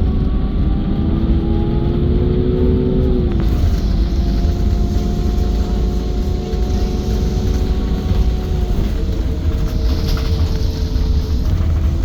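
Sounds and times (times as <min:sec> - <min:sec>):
bus engine rumbling and whining: 0:00.0 - 0:12.0.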